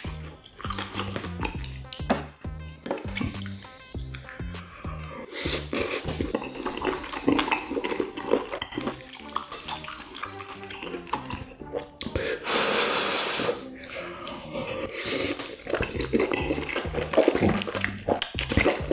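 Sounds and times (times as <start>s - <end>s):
wet chewing mouth smacks: 0.0s - 12.2s, 15.2s - 18.9s
slurping noodles: 0.0s - 18.9s.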